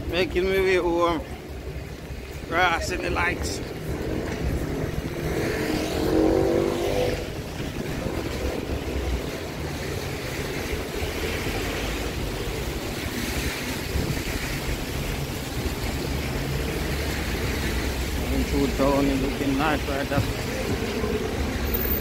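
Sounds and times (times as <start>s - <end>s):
road noise on wet road: 0.0s - 22.0s
vehicle passing: 2.7s - 22.0s.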